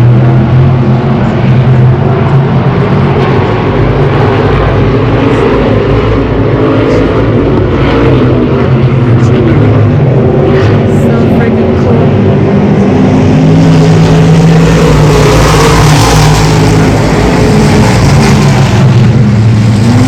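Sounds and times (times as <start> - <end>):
race car engines running: 0.0 - 20.0.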